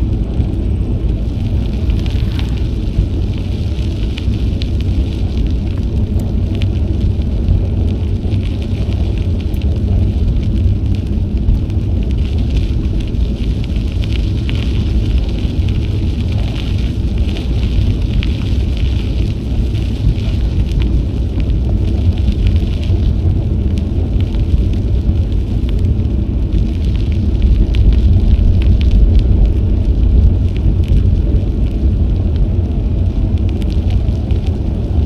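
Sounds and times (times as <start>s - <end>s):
bicycle tyres crackling on trail: 0.0s - 35.0s
wind rumbling on microphone: 0.0s - 35.0s.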